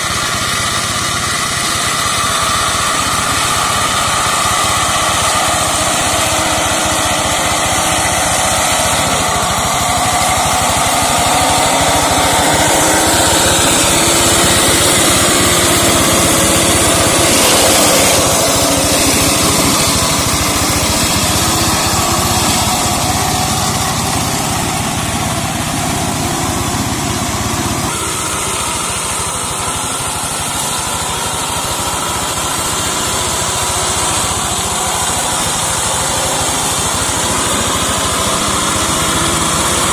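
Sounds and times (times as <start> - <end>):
cutter chopping through brush: 0.0 - 39.9
diesel engine running under load: 0.0 - 39.9.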